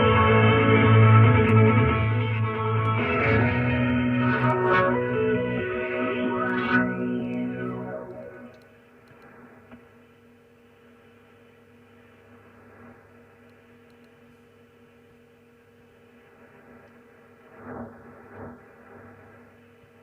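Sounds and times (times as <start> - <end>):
radio carrier hum with hiss: 0.0 - 20.0.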